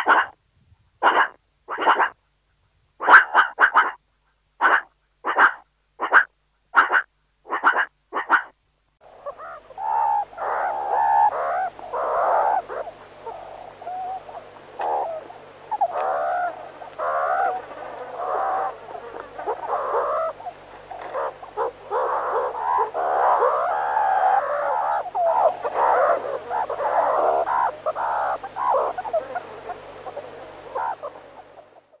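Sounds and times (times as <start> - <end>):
meerkats chirping: 1.0 - 2.2, 3.0 - 4.0, 4.6 - 8.5, 9.2 - 32.0.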